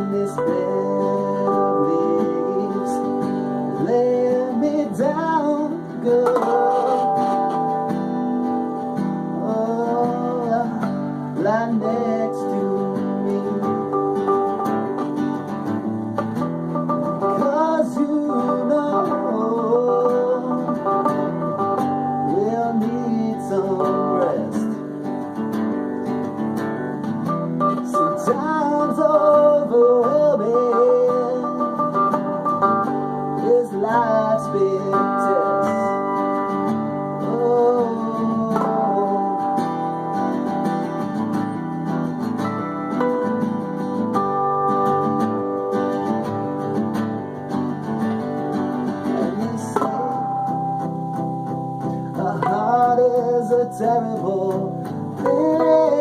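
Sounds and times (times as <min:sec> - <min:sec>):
acoustic guitar song: 0:00.0 - 0:56.0.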